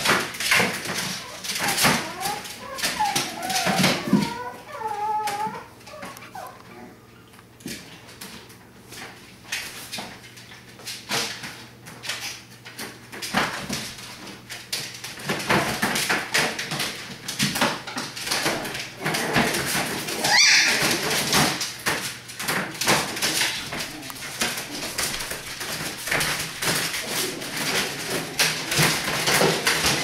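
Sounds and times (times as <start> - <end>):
puppy claws scratching plastic: 0.0 - 6.6, 9.0 - 30.0.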